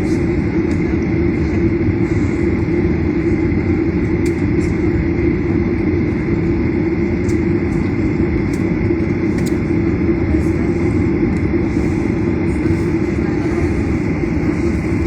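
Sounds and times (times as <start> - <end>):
airplane engines rumbling: 0.0 - 15.0.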